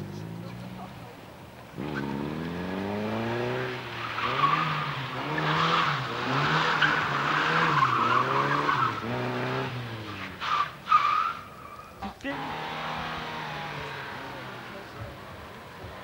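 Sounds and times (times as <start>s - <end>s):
rally car engine revving: 1.7s - 11.4s, 12.0s - 16.0s
tyres squealing and skidding: 1.8s - 2.7s, 3.4s - 16.0s.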